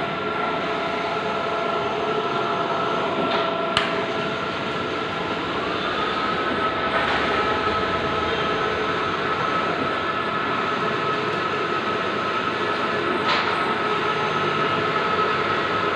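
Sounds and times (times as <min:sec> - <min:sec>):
printer whirring with high whine: 0:00.0 - 0:15.9.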